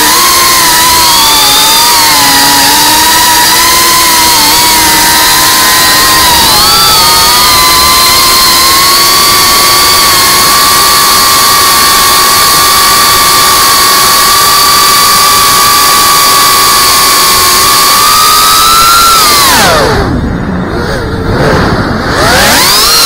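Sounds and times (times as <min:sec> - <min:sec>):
quadcopter propellers whining: 0:00.0 - 0:23.0.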